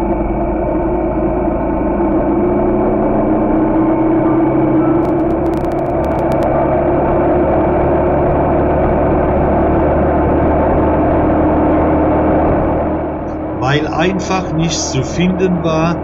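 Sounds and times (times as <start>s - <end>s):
motorcycle engine running: 0.0s - 13.7s.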